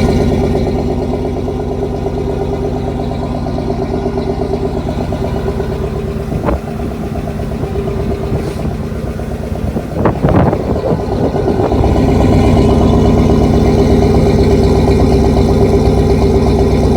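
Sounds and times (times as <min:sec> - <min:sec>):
vee eight engine running: 0:00.0 - 0:16.9.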